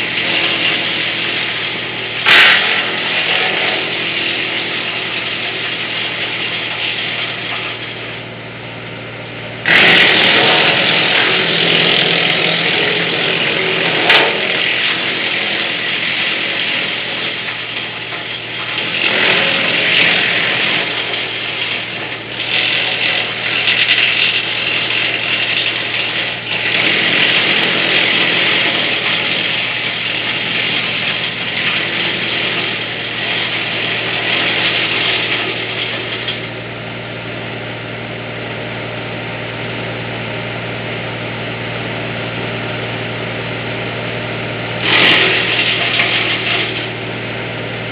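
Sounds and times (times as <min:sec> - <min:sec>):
branch chipper droning: 0:00.0 - 0:47.9.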